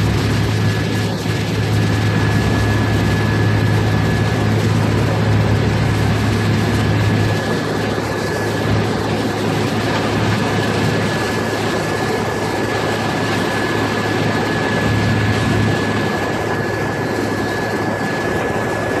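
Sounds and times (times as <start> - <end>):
boat engines running: 0.0 - 19.0
high-pitched whine: 0.0 - 19.0.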